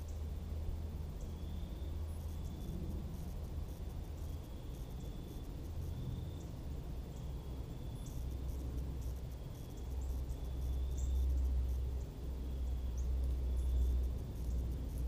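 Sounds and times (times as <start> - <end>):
faint insect trills: 0.0 - 15.0
steady low rumble: 0.0 - 15.0.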